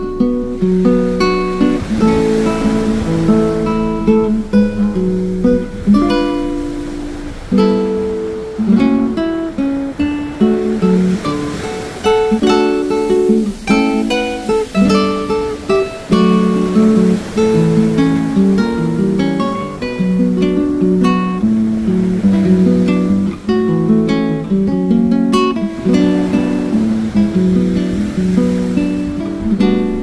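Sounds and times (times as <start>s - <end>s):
plucked acoustic guitar: 0.0s - 30.0s.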